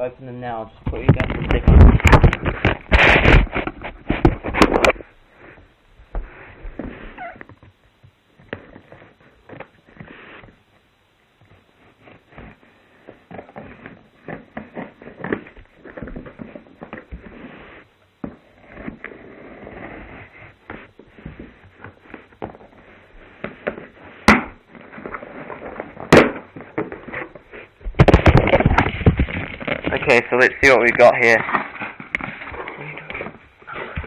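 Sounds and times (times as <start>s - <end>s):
microphone handling noise: 0.7s - 8.9s, 13.4s - 34.0s
cardboard crackling and scraping: 0.9s - 7.8s, 8.4s - 10.6s, 11.5s - 34.0s.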